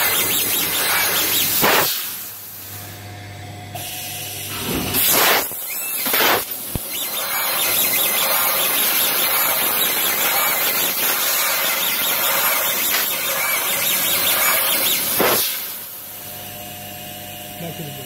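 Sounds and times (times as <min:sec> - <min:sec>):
laser cutter gas jet hissing: 0:00.0 - 0:02.7, 0:03.8 - 0:16.1.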